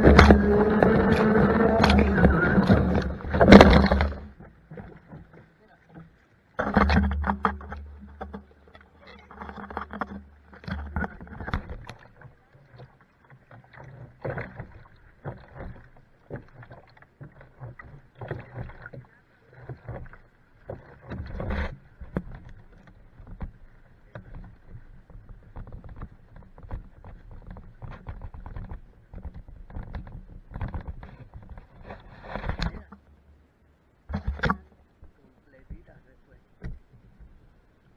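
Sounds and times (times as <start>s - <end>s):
water splashing against boat hull: 0.0s - 33.1s, 33.7s - 37.9s
low hum: 0.0s - 37.9s.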